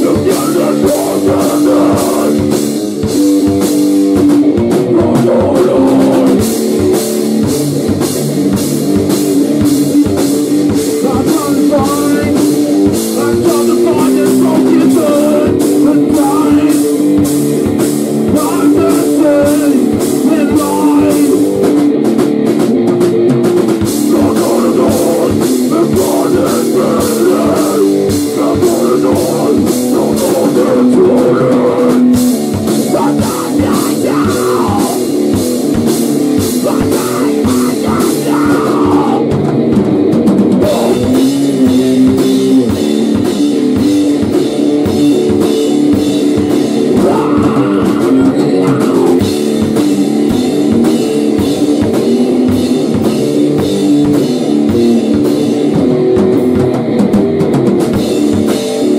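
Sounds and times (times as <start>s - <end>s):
electric guitar: 0.0s - 58.9s
fast drum beat: 0.0s - 58.9s.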